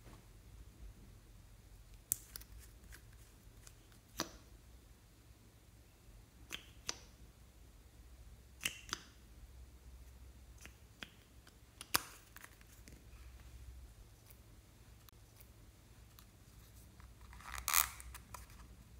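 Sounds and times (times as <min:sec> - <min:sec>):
faint low hum: 0:00.0 - 0:18.9.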